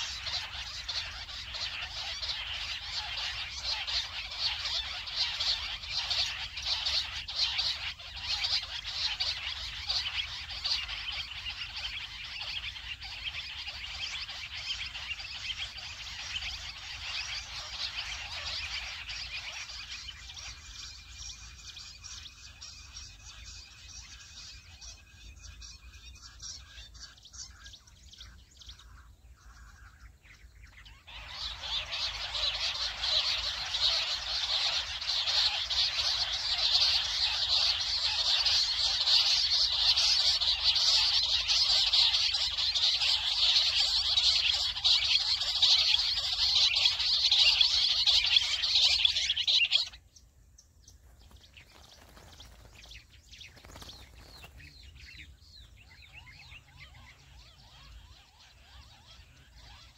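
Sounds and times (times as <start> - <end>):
quail calls chorus: 0.0 - 50.1, 50.8 - 59.9.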